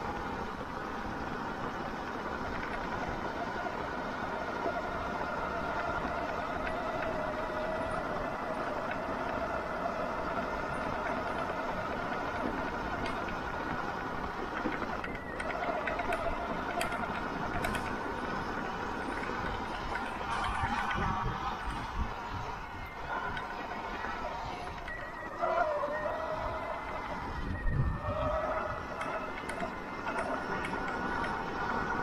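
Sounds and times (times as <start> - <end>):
electric motor whine: 0.0 - 32.0
wind rumble on microphone: 0.0 - 32.0.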